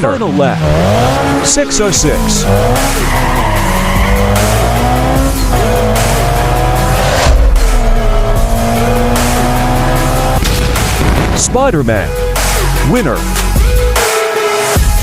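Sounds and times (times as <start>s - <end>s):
racing engine revving: 0.0s - 13.5s
background music: 0.0s - 15.0s.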